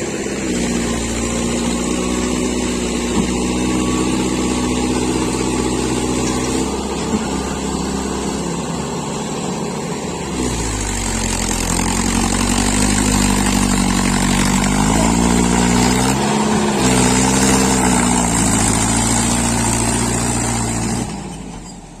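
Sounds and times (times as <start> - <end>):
tractor engine revving: 0.0 - 22.0.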